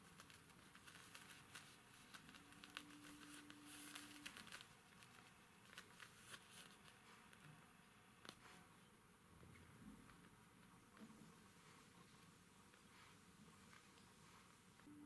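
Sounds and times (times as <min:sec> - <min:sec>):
faint rustling: 0:00.0 - 0:14.9
faint steady hum: 0:00.0 - 0:15.0.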